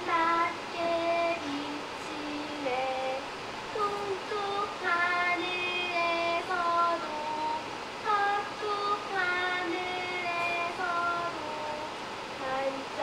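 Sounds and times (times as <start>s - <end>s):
girl singing slow melody: 0.0s - 13.0s.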